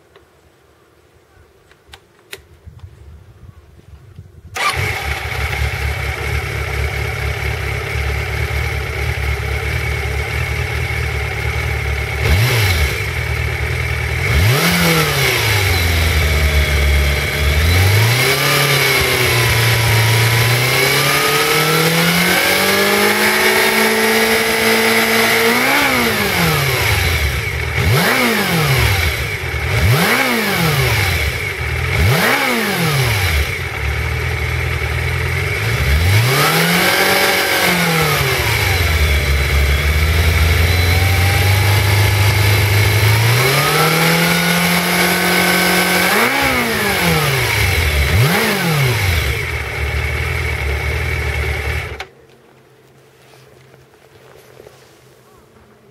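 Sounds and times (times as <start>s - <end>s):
motorcycle engine revving: 4.5s - 52.1s
motorcycle engine starting: 4.5s - 52.3s.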